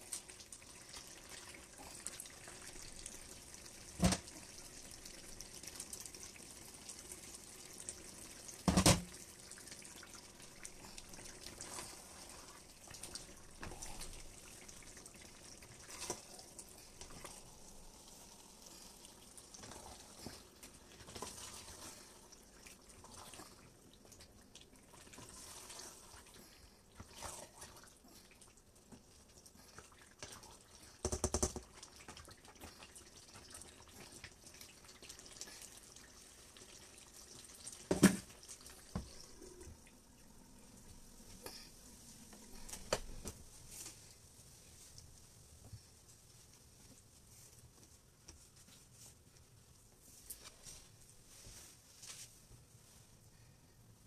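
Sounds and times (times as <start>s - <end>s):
stew bubbling and popping: 0.0s - 44.2s.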